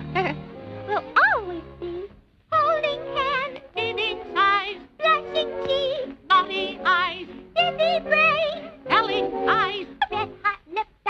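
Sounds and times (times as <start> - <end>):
orchestral accompaniment: 0.0 - 2.1, 2.7 - 10.5.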